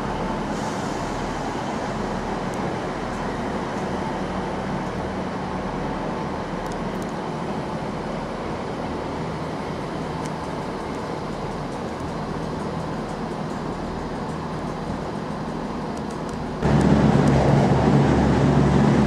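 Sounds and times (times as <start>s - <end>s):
diesel train engines rumbling: 0.0s - 19.0s.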